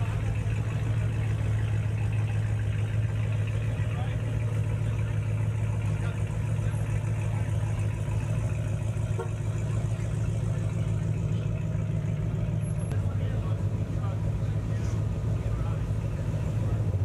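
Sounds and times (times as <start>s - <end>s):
pickup truck engines idling: 0.0s - 17.0s.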